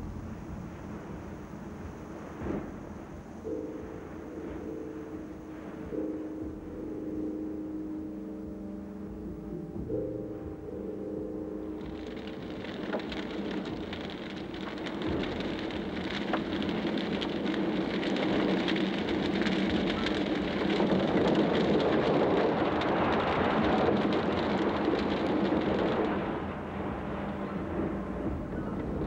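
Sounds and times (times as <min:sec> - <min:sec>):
lava crackling and hissing: 0:00.0 - 0:07.6, 0:11.3 - 0:29.0
faint low hum: 0:00.0 - 0:29.0.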